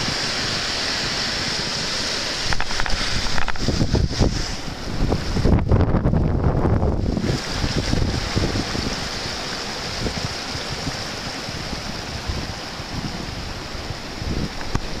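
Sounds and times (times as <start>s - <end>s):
hot spring water churning over rocks: 0.0s - 15.0s.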